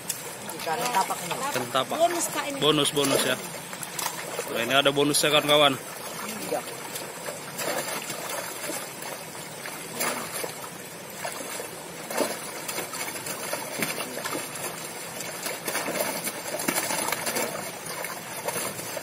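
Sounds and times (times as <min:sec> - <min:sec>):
sharp water splashes: 0:00.0 - 0:19.0
water trickling: 0:00.0 - 0:19.0.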